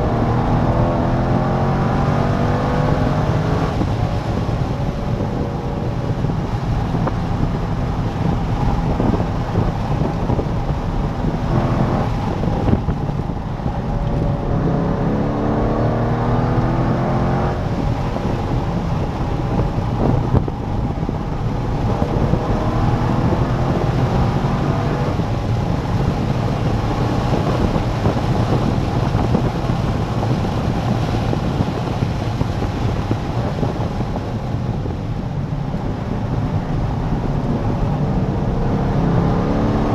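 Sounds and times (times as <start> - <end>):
car engine drone: 0.0 - 39.9
wind and road noise: 0.0 - 39.9.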